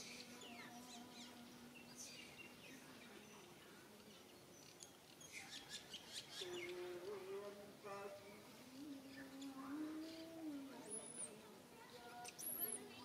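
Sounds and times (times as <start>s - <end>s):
faint bird chirping: 0.0s - 7.2s, 7.9s - 13.0s.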